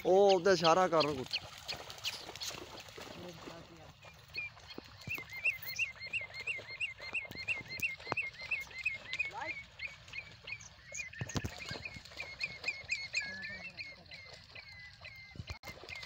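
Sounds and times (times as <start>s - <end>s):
animal chirping: 0.0s - 2.6s, 4.0s - 16.0s.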